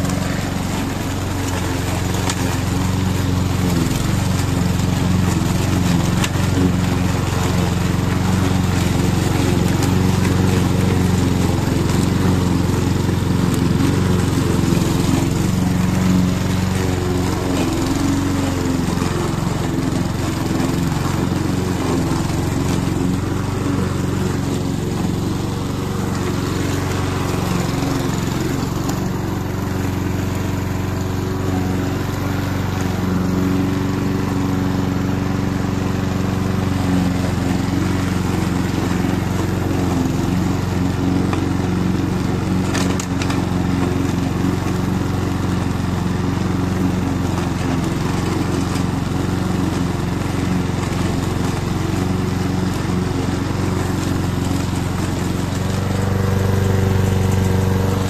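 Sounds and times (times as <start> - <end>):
lawn mower running: 0.0 - 58.0.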